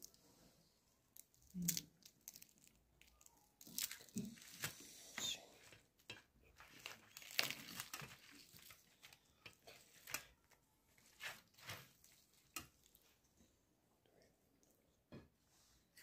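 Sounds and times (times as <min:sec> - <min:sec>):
faint crinkling and crunching: 0:00.0 - 0:16.0.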